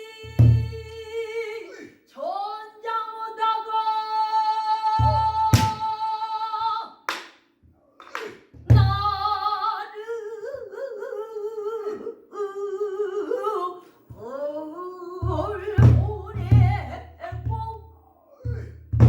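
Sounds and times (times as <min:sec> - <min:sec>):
person singing with vibrato: 0:00.0 - 0:07.1, 0:08.7 - 0:18.7.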